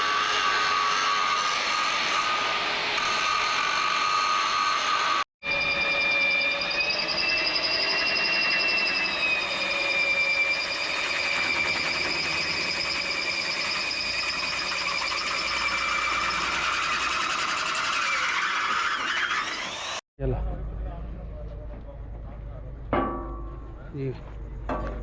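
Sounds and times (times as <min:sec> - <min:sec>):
machine whining and buzzing: 0:00.0 - 0:20.0.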